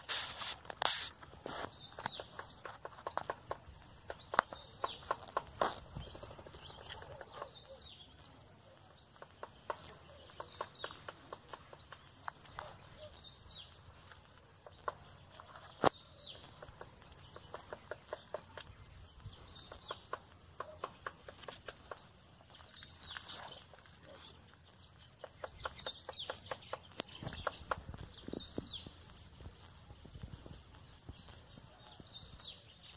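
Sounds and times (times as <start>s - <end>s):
woodpecker knocking: 0.0s - 7.9s, 8.6s - 29.6s
small birds chirping: 0.0s - 32.9s.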